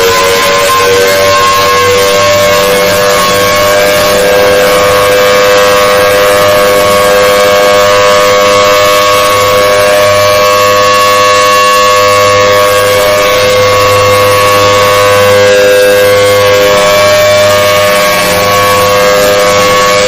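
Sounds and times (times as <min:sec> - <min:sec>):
dense noisy haze: 0:00.0 - 0:20.0
harsh alarm tones: 0:00.0 - 0:20.0.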